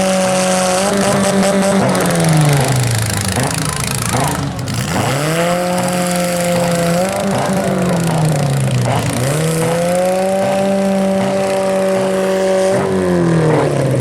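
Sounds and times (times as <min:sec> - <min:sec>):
arena crowd din: 0:00.0 - 0:14.0
car engine revving hard: 0:00.0 - 0:14.0.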